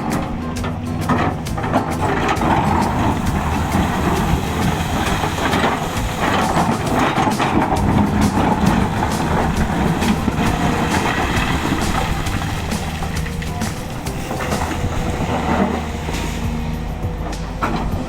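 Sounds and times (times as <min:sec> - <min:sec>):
heavy machine engine running: 0:00.0 - 0:18.0
metallic clanks and clicks: 0:00.0 - 0:18.0.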